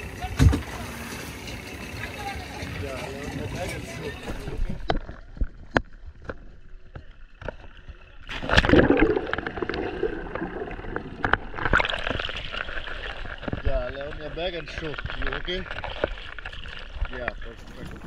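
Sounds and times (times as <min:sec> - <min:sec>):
water gurgling and sloshing: 0:00.0 - 0:18.0.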